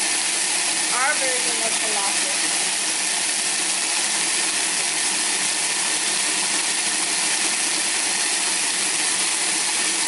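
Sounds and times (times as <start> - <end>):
blender motor grinding: 0.0 - 10.0.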